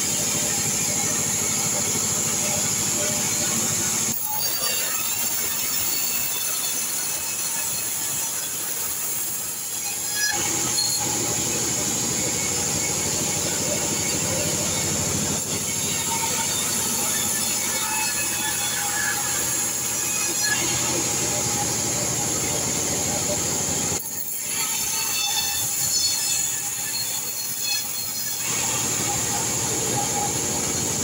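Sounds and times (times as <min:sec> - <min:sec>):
band saw cutting log: 0:00.0 - 0:31.0.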